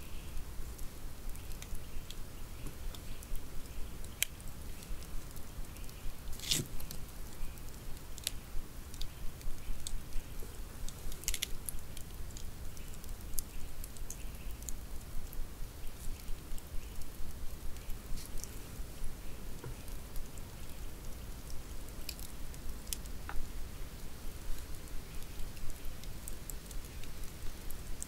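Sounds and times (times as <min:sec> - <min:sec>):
campfire crackling and popping: 0:00.4 - 0:28.0.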